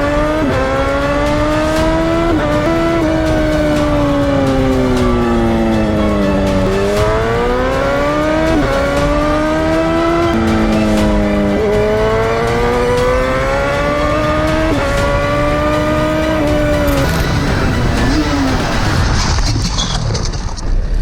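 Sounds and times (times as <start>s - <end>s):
motorcycle engine accelerating: 0.0s - 19.8s.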